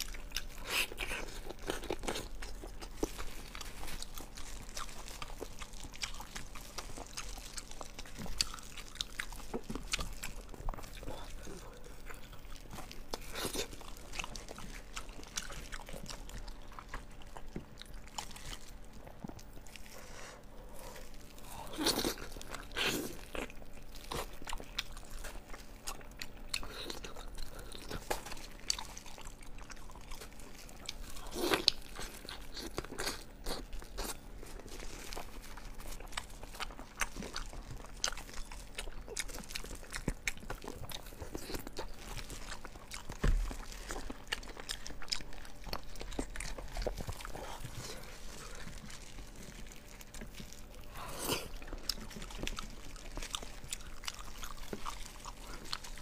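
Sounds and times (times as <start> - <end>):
chewing and biting meat: 0.0 - 56.0.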